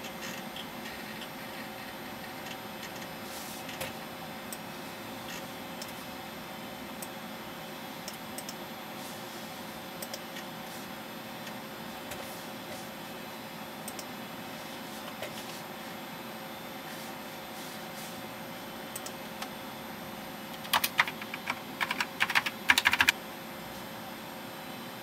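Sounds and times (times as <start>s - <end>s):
computer whirring: 0.0s - 25.0s.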